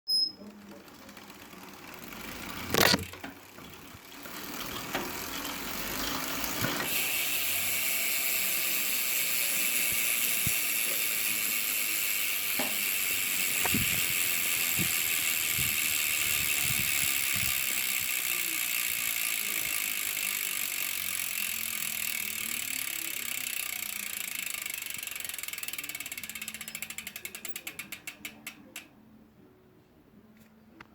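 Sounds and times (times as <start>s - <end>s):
bicycle hub freewheel ratcheting: 0.1s - 28.9s.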